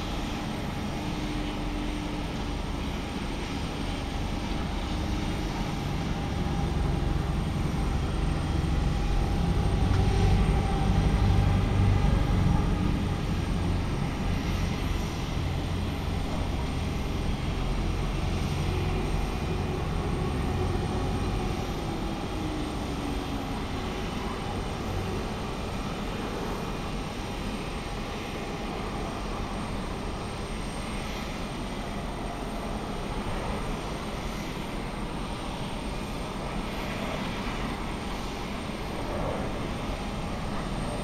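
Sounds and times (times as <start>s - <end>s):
jet engine rumble and hiss: 0.0s - 41.0s.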